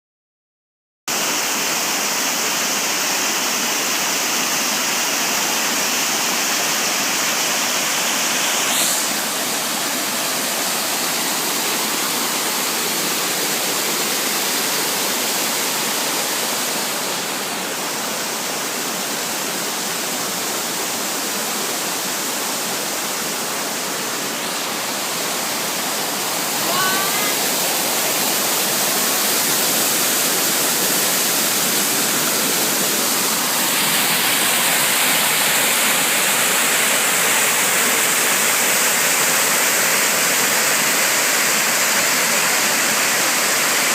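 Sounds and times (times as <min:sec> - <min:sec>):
waterfall rushing: 0:01.1 - 0:43.9.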